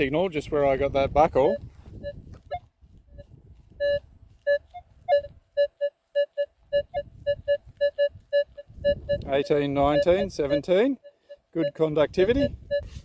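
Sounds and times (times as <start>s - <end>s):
metal detector beeps: 1.3s - 13.0s.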